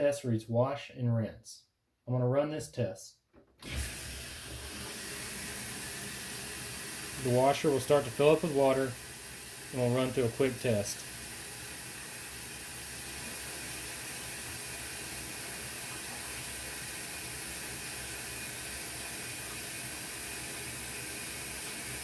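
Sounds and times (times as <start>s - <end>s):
washer filling with water: 3.6s - 22.0s.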